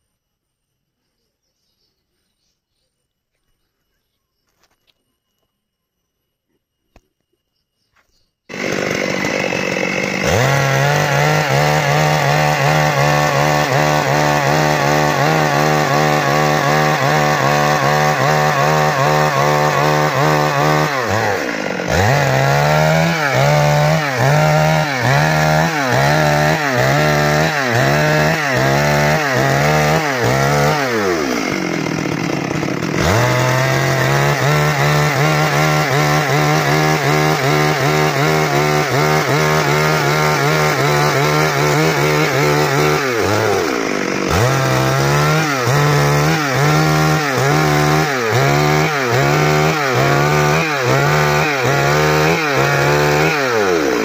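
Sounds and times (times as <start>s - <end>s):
chainsaw cutting through log: 8.5s - 54.0s.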